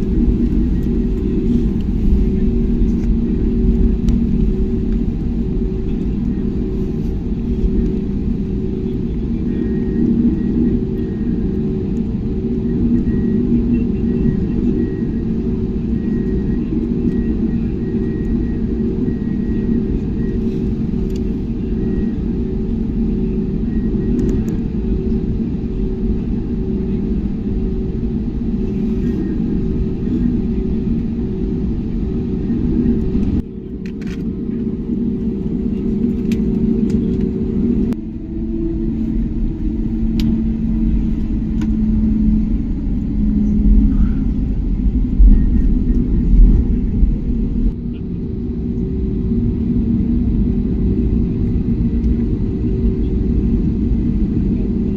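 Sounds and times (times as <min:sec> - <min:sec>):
aircraft cabin engine rumble: 0:00.0 - 0:54.9
steady cabin hum: 0:00.0 - 0:54.9.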